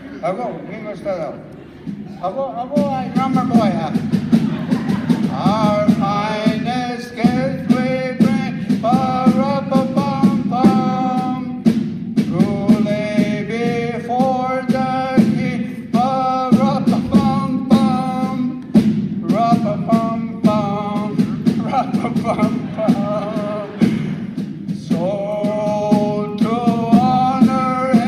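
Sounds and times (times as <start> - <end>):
regular drum beat: 1.0 - 28.0
men singing: 4.6 - 18.6, 19.2 - 28.0.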